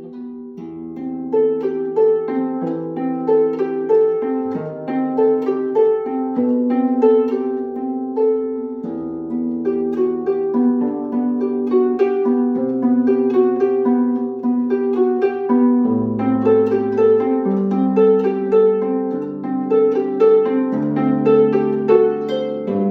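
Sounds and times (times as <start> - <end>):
solo harp music: 0.0 - 22.9.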